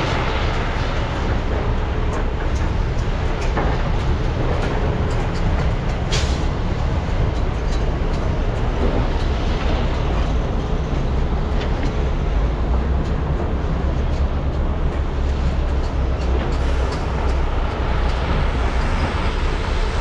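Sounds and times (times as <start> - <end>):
excavator diesel engines rumbling: 0.0 - 20.0.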